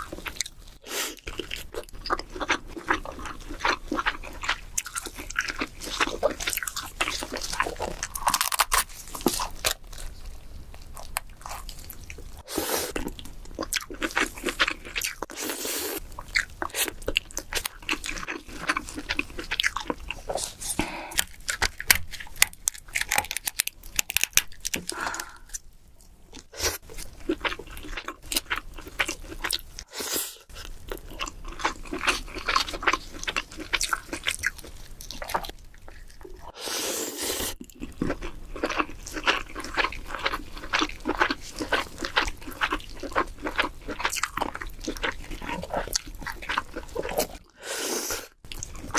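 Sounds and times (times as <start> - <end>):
person chewing crab: 0.0 - 48.9.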